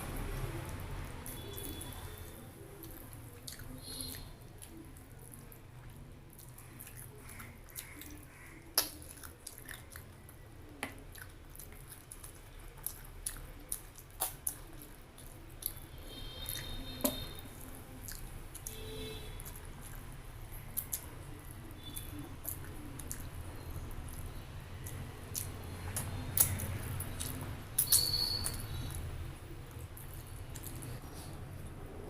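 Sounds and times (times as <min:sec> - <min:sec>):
mouth clicks and smacks: 0:00.0 - 0:32.0
person chewing food: 0:00.0 - 0:32.0.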